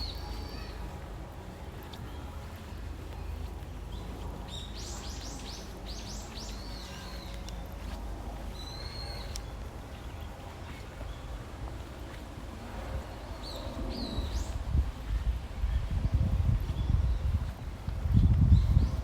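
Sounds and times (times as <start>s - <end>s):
songbird singing: 0.0s - 12.2s, 12.9s - 19.0s
steady low rumble: 0.0s - 19.0s.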